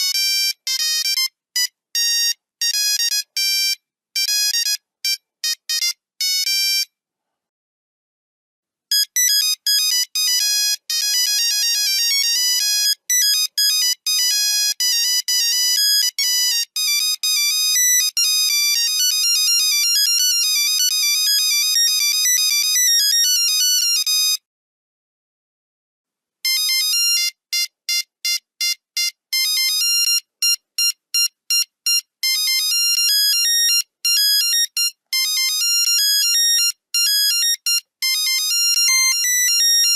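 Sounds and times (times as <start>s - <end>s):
high-pitched beeping ringtone melodies: 0.0s - 6.9s, 8.9s - 24.4s, 26.5s - 39.9s.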